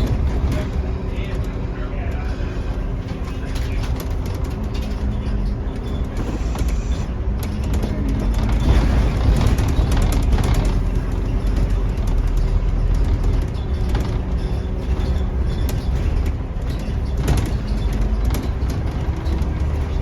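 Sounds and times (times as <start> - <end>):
body rattles: 0.0 - 20.0
bus diesel engine running: 0.0 - 20.0.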